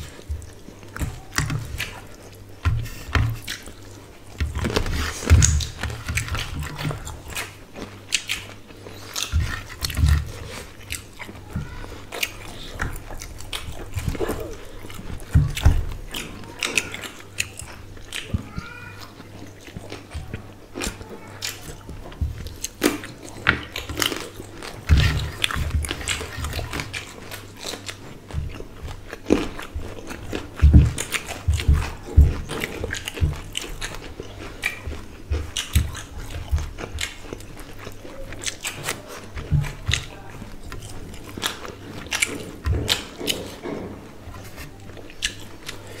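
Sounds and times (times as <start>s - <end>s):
chewing with wet mouth clicks: 0.0s - 46.0s.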